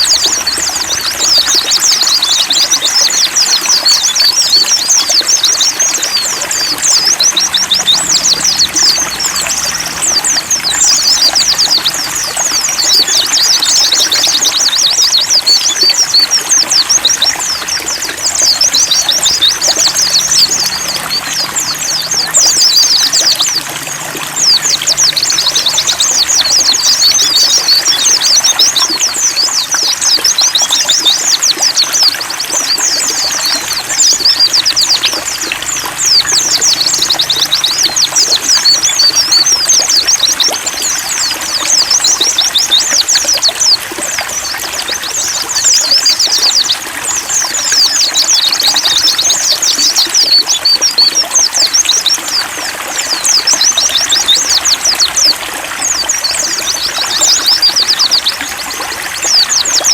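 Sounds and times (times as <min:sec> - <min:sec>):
birds twittering: 0:00.0 - 0:59.9
trickling water: 0:00.0 - 0:59.9.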